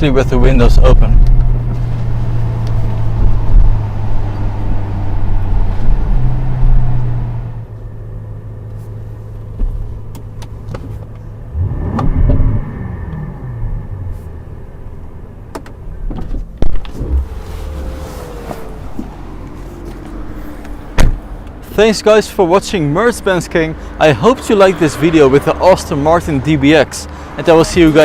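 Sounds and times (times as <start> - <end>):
car engine drone: 0.0 - 28.0.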